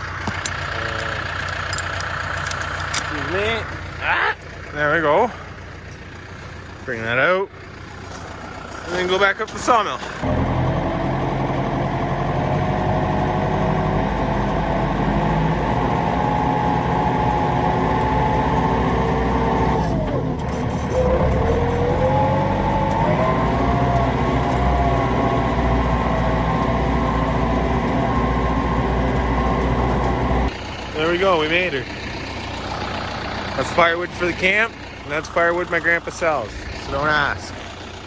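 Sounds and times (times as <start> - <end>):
tractor diesel engine running hard: 0.0 - 38.0.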